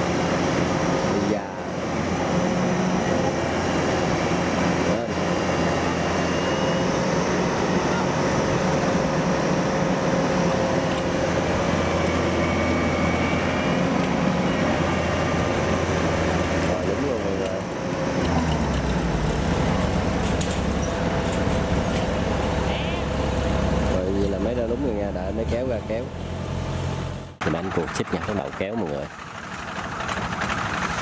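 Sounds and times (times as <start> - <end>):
harvester diesel engine droning: 0.0 - 31.0.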